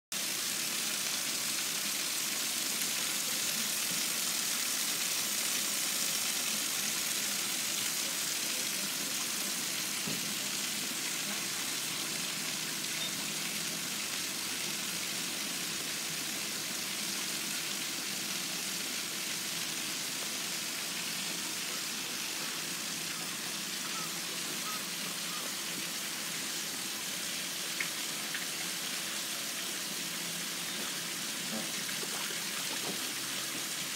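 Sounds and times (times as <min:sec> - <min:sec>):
running water hiss: 0:00.2 - 0:33.9.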